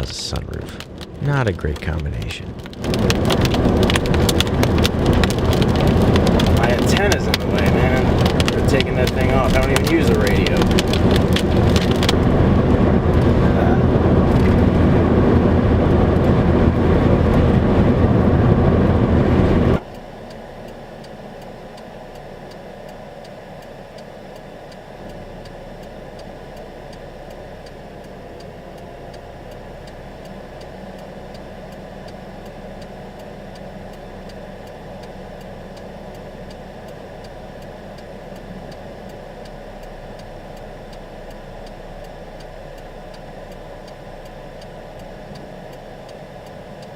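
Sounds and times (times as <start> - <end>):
quiet vehicle hum: 0.0 - 46.9
rain or road noise in vehicle: 0.0 - 46.9.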